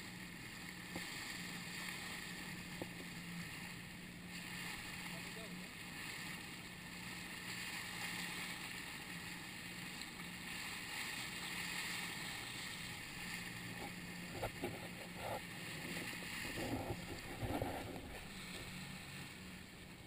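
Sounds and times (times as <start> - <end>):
outboard motor hum: 0.0 - 20.0
rushing water: 0.0 - 20.0
wind: 0.0 - 20.0.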